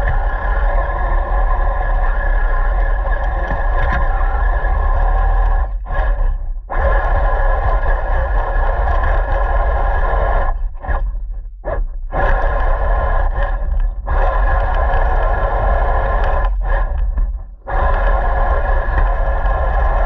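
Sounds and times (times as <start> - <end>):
radio-controlled car motor: 0.0 - 11.1, 12.2 - 20.0
deep rumble: 0.0 - 20.0.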